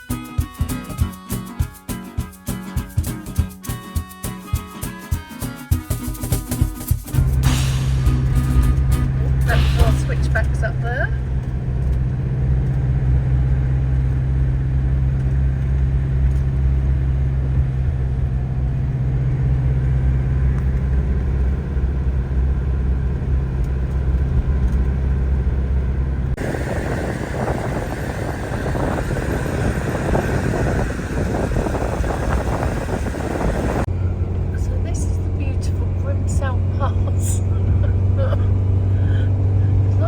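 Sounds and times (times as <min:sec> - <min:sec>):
motorhome engine drone: 0:07.2 - 0:40.0.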